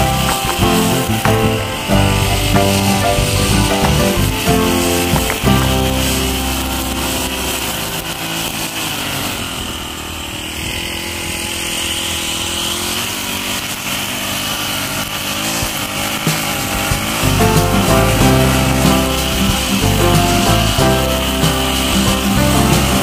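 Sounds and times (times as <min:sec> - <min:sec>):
brush cutter engine running: 0:00.0 - 0:23.0
nylon line cutting grass: 0:00.0 - 0:23.0.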